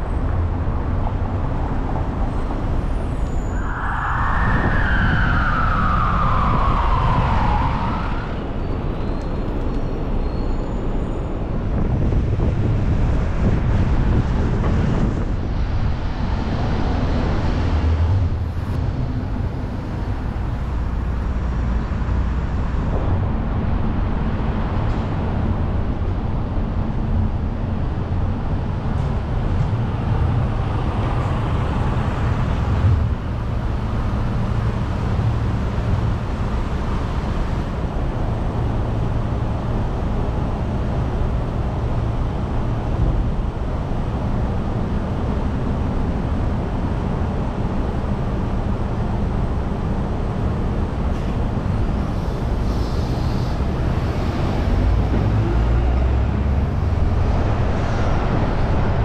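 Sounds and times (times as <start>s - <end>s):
car engine and tyre rumble: 0.0s - 59.0s
surrounding traffic: 0.0s - 59.0s.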